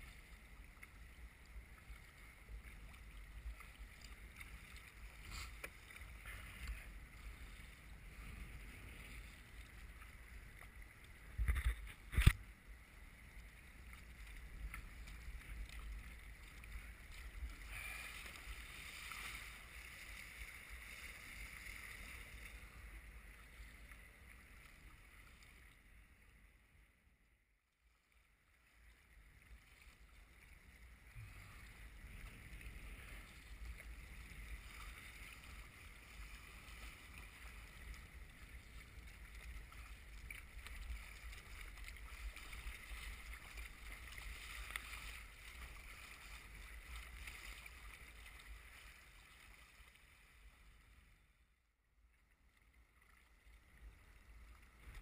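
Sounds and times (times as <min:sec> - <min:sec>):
water splashing around kayak: 0:00.0 - 0:26.2, 0:28.3 - 0:51.2.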